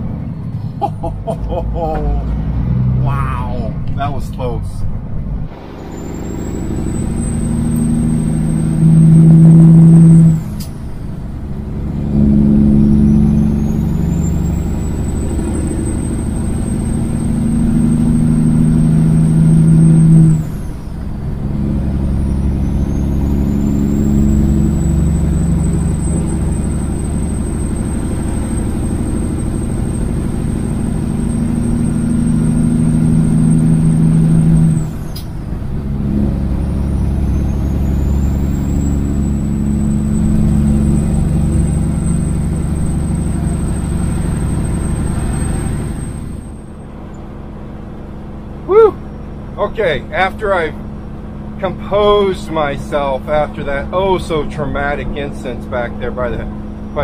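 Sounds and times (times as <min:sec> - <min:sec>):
truck diesel engine accelerating: 0:00.0 - 0:57.0.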